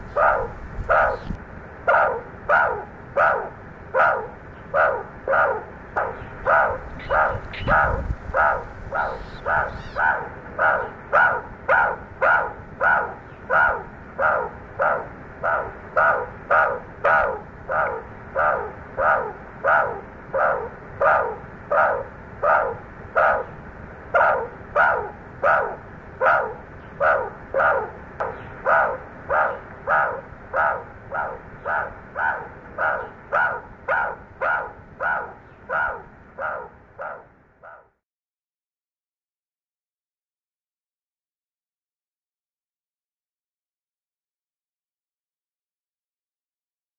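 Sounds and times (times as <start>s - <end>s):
animal calling: 0.0s - 38.0s.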